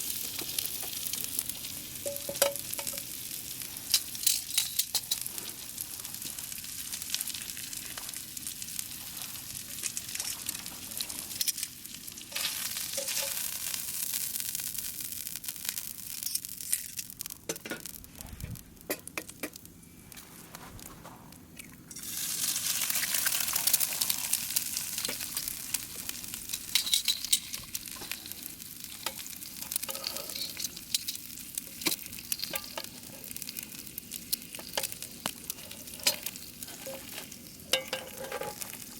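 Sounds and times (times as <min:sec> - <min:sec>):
meat sizzling in a frying pan: 0:00.0 - 0:18.0, 0:21.9 - 0:38.9
small crackles: 0:00.1 - 0:38.9.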